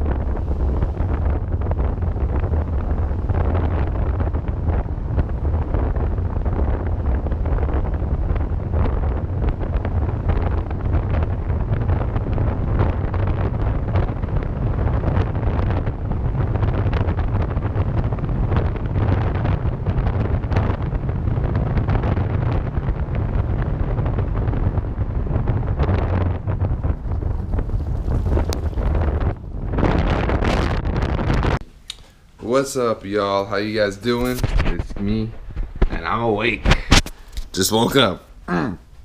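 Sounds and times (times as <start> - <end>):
car road rumble: 0.0 - 31.6
wind buffeting microphone: 0.0 - 38.0.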